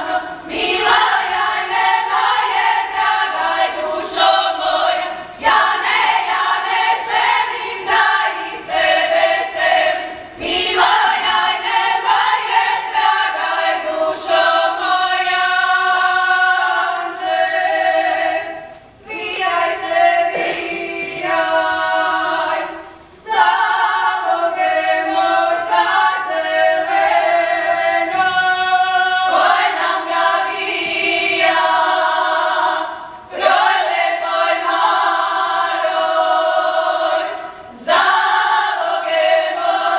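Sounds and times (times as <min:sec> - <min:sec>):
women's choir singing folk song: 0:00.0 - 0:39.9.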